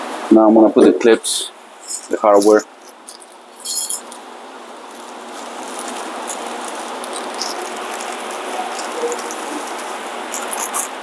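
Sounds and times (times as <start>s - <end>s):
small metal clips jingling: 1.6s - 11.0s.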